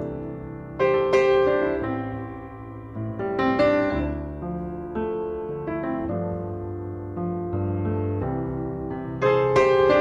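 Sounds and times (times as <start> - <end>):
slow gentle piano chords: 0.0 - 10.0.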